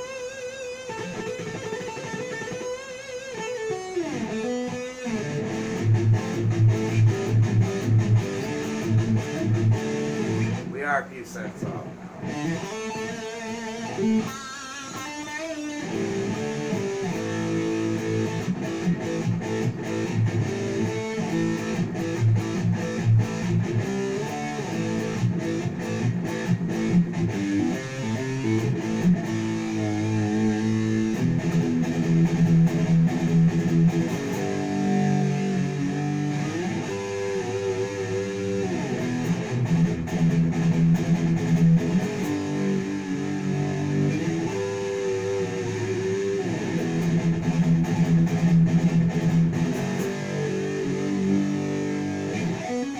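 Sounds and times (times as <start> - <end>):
electric guitar through amplifier: 0.0 - 52.9.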